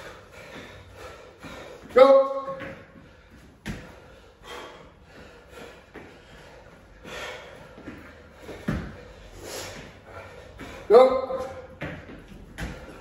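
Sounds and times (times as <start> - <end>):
men panting heavily: 0.0 - 2.0, 2.9 - 11.8.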